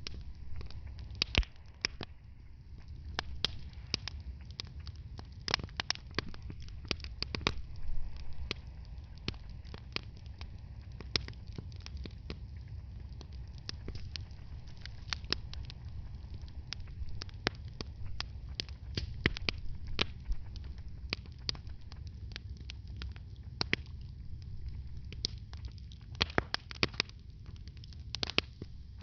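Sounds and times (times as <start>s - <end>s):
low rumble: 0.0s - 26.2s
wood fire crackling: 0.0s - 29.0s.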